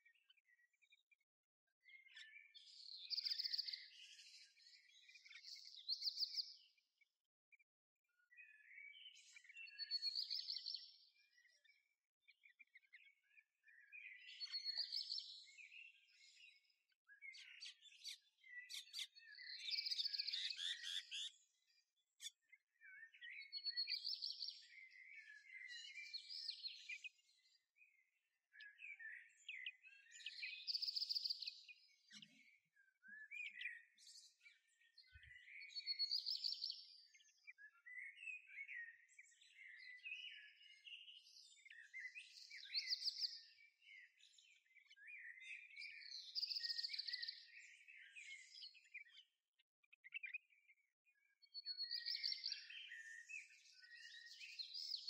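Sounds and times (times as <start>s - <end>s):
songbird song phrase: 0.0s - 55.0s.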